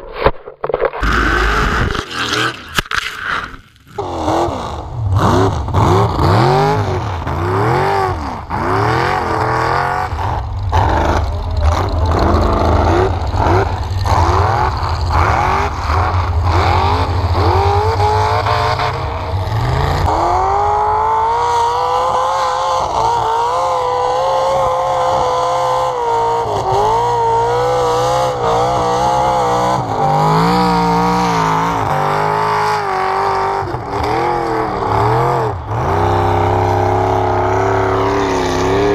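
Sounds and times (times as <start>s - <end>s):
truck engine revving hard: 3.9s - 38.9s.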